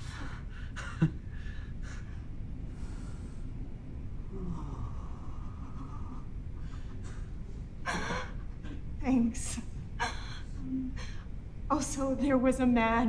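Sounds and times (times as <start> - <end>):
low room rumble: 0.0 - 13.0.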